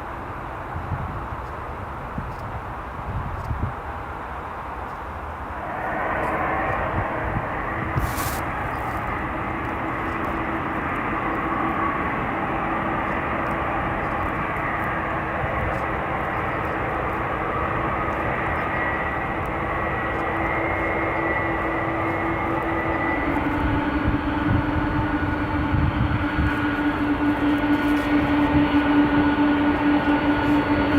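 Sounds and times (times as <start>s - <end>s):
jet engines whining: 5.1s - 30.9s.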